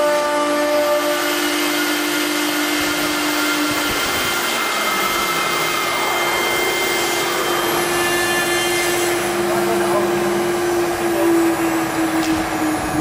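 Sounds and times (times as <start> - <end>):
router spindle whining: 1.2 - 13.0.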